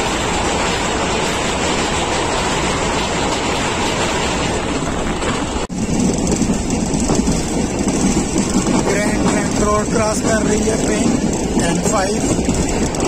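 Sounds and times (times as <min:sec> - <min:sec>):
train wheels running over bridge: 0:00.0 - 0:13.0.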